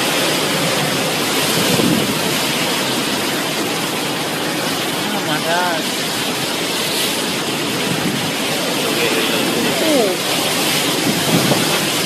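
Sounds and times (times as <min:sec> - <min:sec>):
hurricane-force wind: 0:00.0 - 0:12.0
rain: 0:00.0 - 0:12.0.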